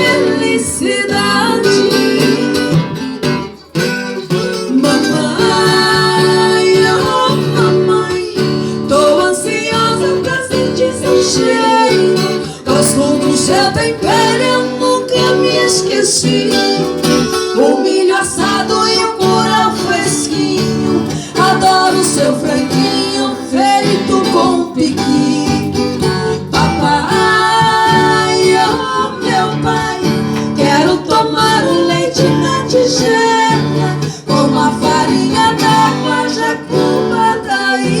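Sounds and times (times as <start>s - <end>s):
person singing: 0.0s - 2.9s, 4.2s - 38.0s
strummed acoustic guitar: 0.0s - 38.0s.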